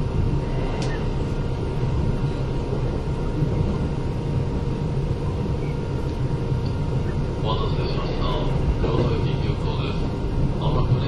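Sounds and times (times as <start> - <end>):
thin steady whine: 0.0 - 11.0
train wheels rumbling: 0.0 - 11.0.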